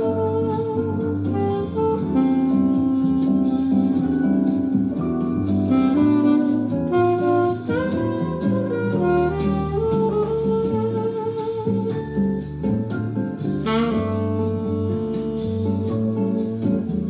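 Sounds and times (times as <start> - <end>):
alto saxophone jazz melody: 0.0 - 17.0
backing track drums: 0.0 - 17.0.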